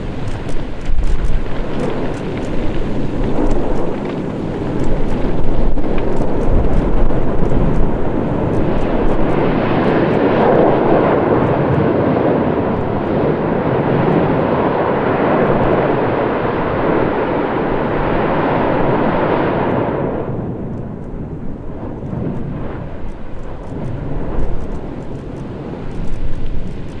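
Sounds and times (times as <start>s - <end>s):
volcano venting roar: 0.0s - 27.0s.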